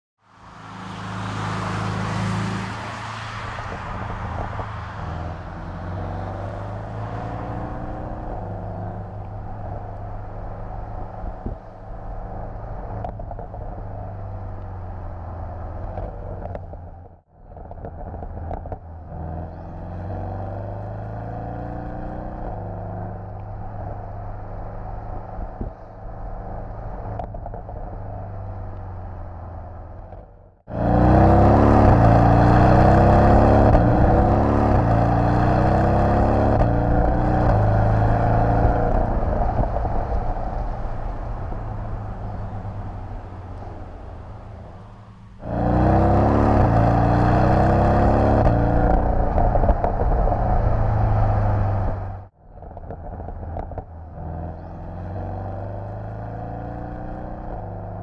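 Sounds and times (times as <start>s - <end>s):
sports car engine accelerating: 0.3s - 58.0s.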